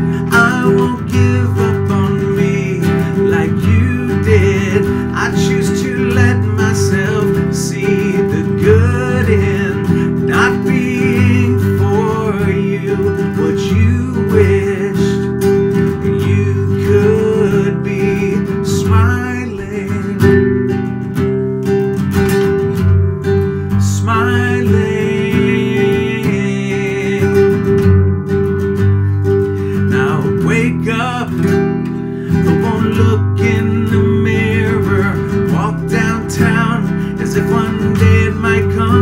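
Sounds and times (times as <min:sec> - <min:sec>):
man singing: 0:00.0 - 0:20.9, 0:22.6 - 0:39.0
acoustic guitar strumming: 0:00.0 - 0:39.0.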